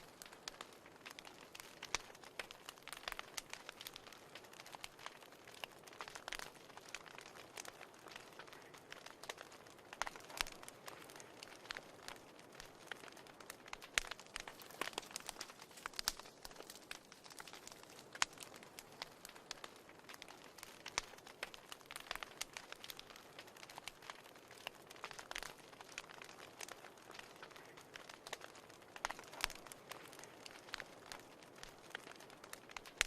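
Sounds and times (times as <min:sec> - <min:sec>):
fireplace fire crackling: 0:00.0 - 0:33.0.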